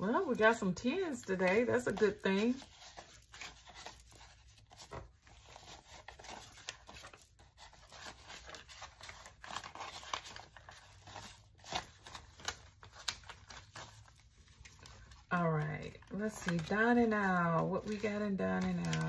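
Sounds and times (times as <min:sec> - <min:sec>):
banknotes rustling and flicking: 0:00.0 - 0:19.0.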